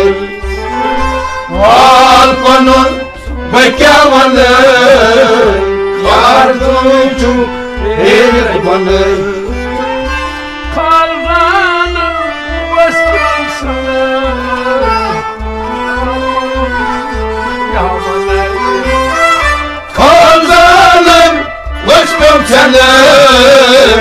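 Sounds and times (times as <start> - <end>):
folk instrumental melody: 0.0 - 24.0
loud singing: 0.0 - 24.0
steady low drum beat: 0.0 - 24.0.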